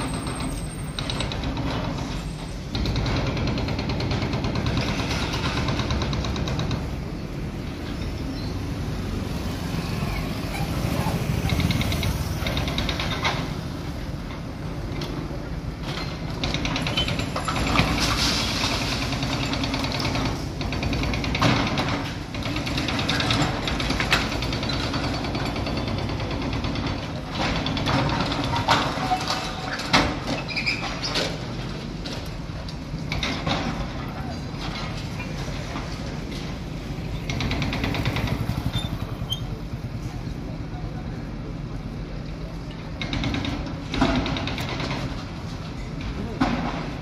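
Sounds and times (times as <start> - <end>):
diesel engines running: 0.0 - 47.0.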